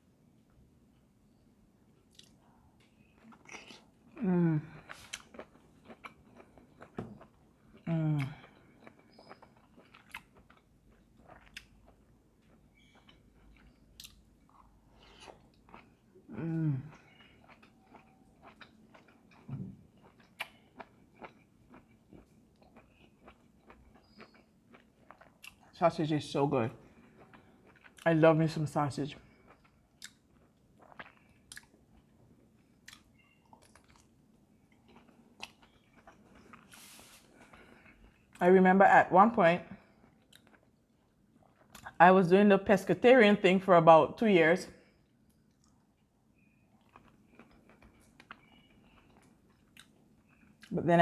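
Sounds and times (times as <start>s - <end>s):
person chewing food: 1.9s - 25.7s, 26.8s - 28.1s, 29.2s - 38.4s, 39.8s - 42.0s, 45.0s - 50.8s.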